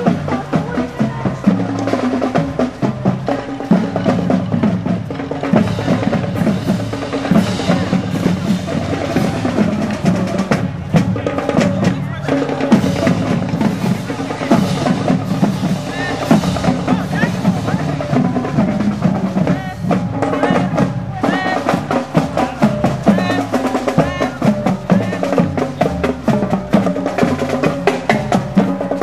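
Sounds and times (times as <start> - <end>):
marching band playing: 0.0 - 29.0
snare and bass drums: 0.0 - 29.0.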